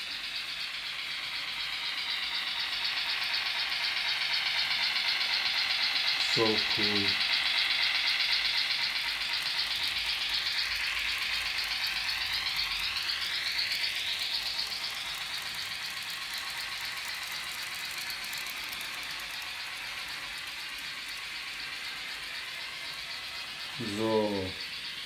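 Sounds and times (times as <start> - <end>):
model train rattling on track: 0.0 - 25.0.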